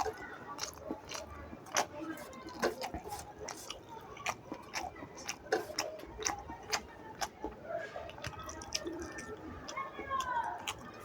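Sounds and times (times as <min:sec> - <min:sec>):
person chewing and smacking: 0:00.0 - 0:11.0.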